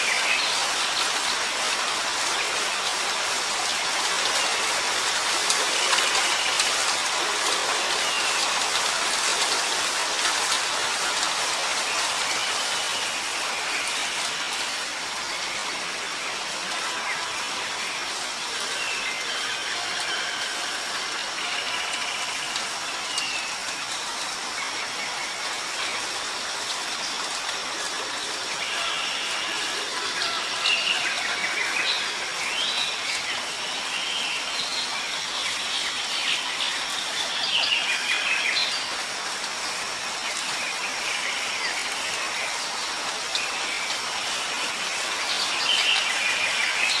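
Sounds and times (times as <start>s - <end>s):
outdoor hiss: 0.0s - 47.0s.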